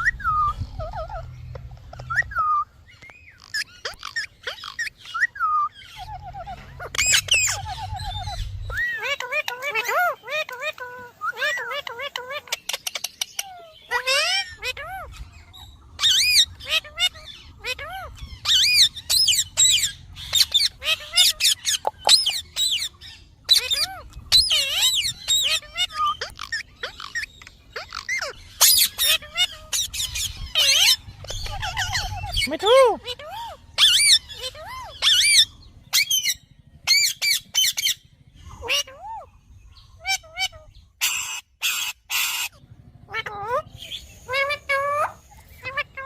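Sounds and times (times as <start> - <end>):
parrot whistling and chirping: 0.0 - 38.0.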